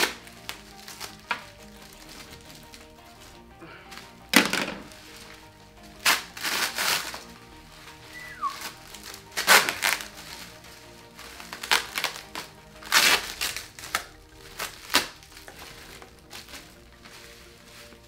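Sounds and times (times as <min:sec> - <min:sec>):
bubble wrap and tape ripping: 0:00.0 - 0:18.0
plastic rustling: 0:00.0 - 0:18.0
soft background music: 0:00.0 - 0:18.0.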